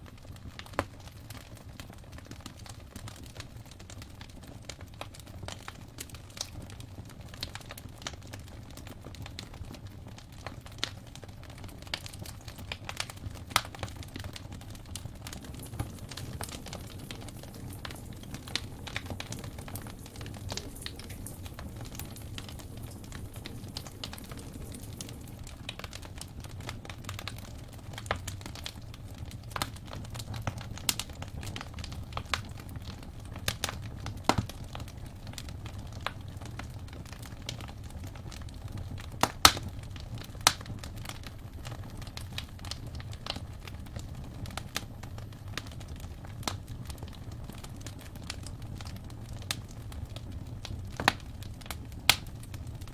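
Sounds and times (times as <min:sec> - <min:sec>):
low rumble of flame: 0:00.0 - 0:52.9
wood fire crackling and popping: 0:00.0 - 0:52.9.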